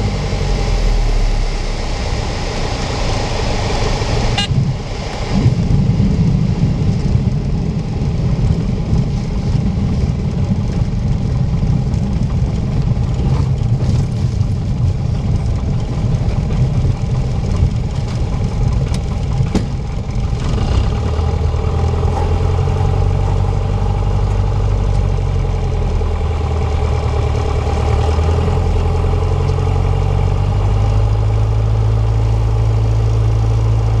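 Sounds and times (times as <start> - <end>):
low engine drone: 0.0 - 34.0
uneven low rumble: 0.0 - 34.0.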